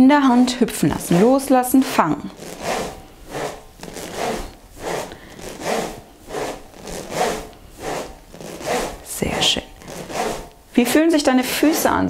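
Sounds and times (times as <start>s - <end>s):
rhythmic rushing rattle of balls: 0.3s - 12.0s.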